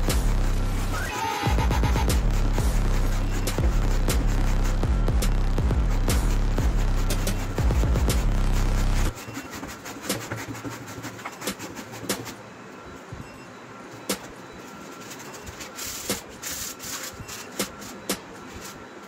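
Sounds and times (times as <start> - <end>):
blade scraping sandpaper: 0.0 - 12.4, 14.1 - 19.0
sandpaper rubbing back and forth: 0.0 - 12.5, 14.1 - 19.0.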